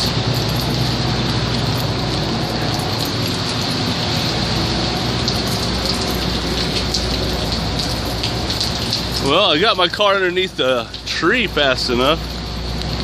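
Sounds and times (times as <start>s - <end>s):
hail and rain pelting: 0.0s - 13.0s.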